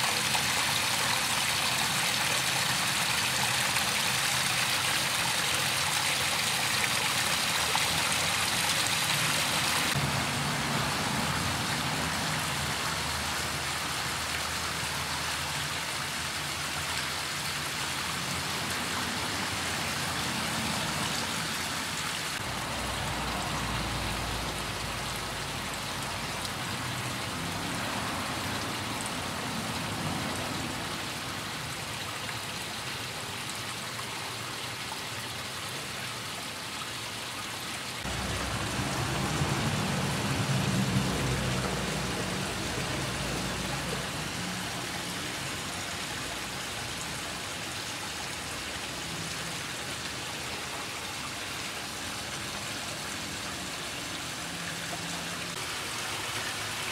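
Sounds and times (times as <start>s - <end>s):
waterfall splashing into pond: 0.0s - 56.9s.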